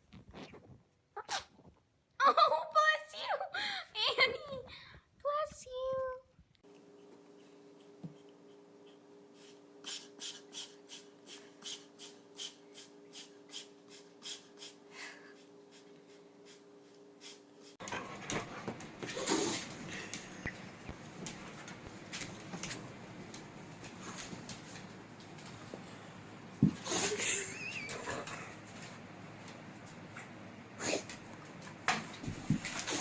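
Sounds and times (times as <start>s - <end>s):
electrical hum: 2.3s - 33.0s.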